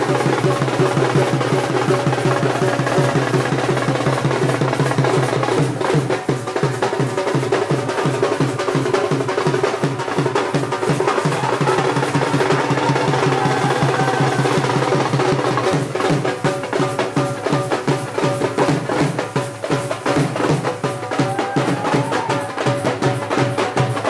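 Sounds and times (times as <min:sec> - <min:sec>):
fast dhol drumming: 0:00.0 - 0:24.0.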